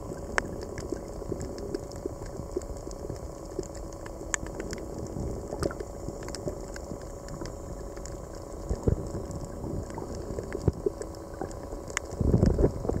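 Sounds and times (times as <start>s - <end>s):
muffled underwater wash: 0.0s - 13.0s
sharp clicks and crackles: 0.0s - 13.0s.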